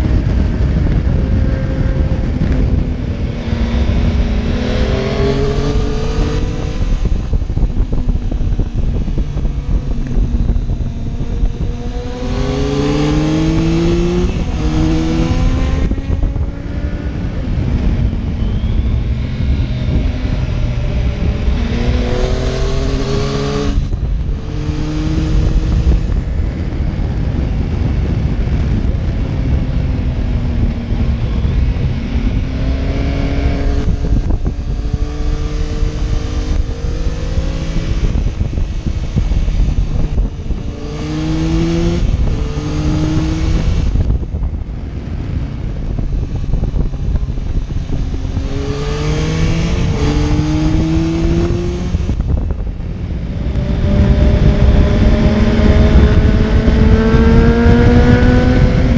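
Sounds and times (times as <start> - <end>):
motorcycle engine accelerating: 0.0 - 58.9
wind buffeting microphone: 0.0 - 58.9.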